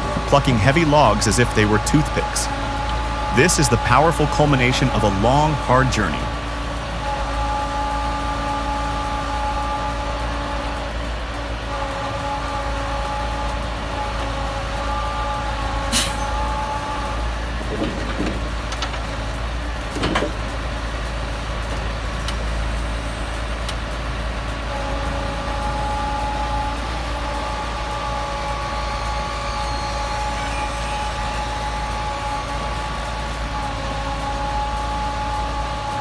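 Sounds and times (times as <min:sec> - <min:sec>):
diesel engine running with whine: 0:00.0 - 0:36.0.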